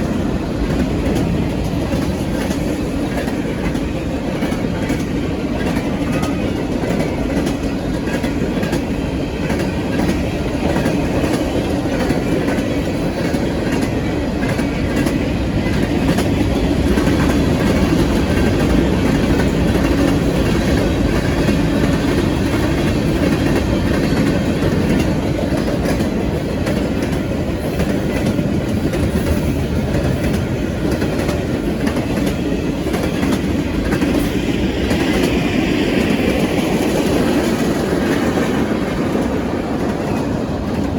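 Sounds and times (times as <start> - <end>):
freight train wheels rumbling on rail: 0.0 - 40.9.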